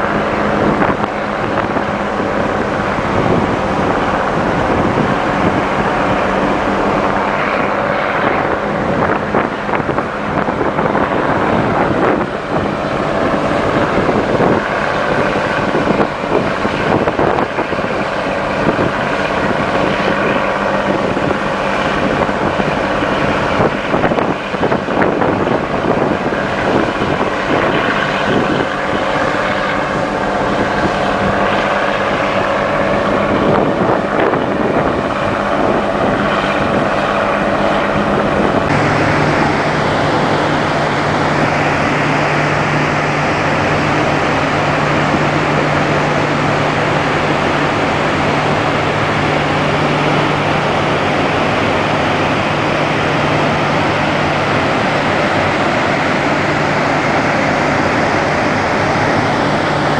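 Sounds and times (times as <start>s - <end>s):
ship machinery hum: 0.0s - 59.9s
wind on microphone: 0.0s - 59.9s.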